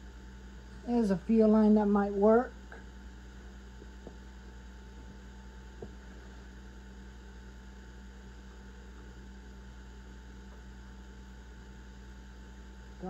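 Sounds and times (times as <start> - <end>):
low mains hum: 0.0 - 13.0.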